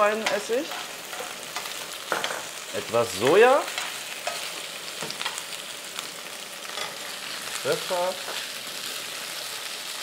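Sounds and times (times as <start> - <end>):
chicken sizzling in oil: 0.0 - 10.0.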